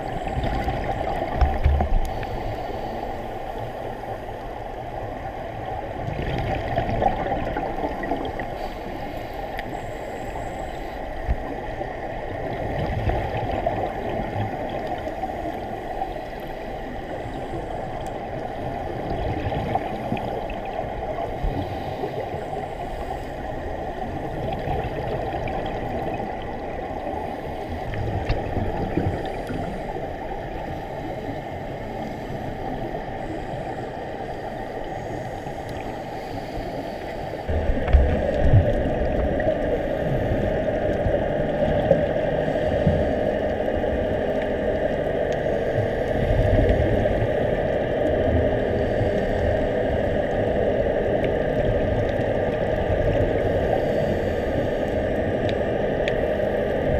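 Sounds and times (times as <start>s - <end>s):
underwater bubbling: 0.0s - 56.9s.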